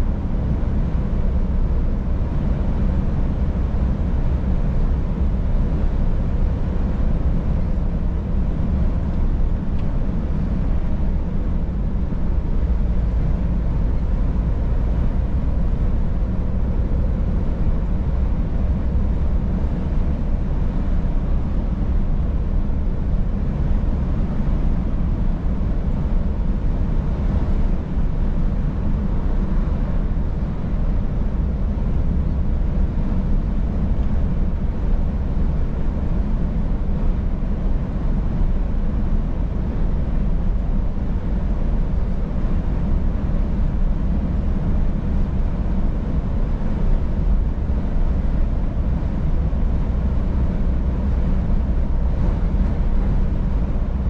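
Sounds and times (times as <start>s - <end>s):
diesel truck engine droning: 0.0s - 54.0s
road noise: 0.0s - 54.0s.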